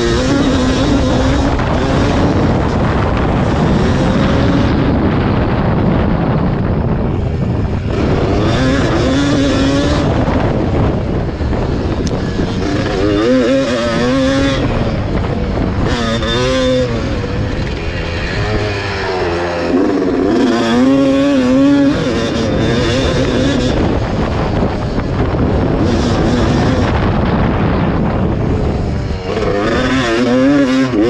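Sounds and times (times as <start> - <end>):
two-stroke engine revving: 0.0 - 31.0.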